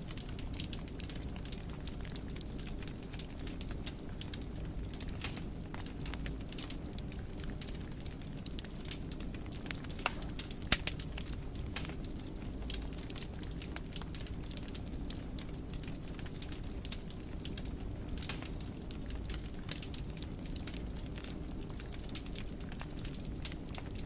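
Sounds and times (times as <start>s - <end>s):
fire crackles and pops: 0.0s - 24.0s
wood fire burning: 0.0s - 24.0s.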